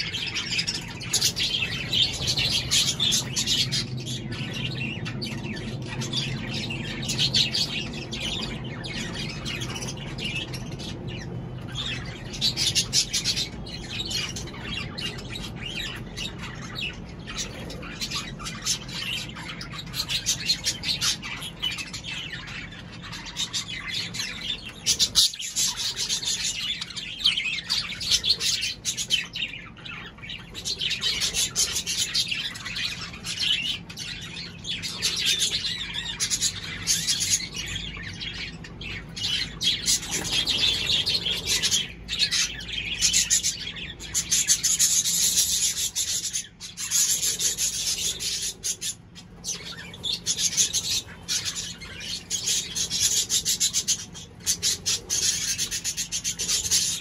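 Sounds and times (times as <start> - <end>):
caged birds chattering and chirping: 0.0 - 57.0.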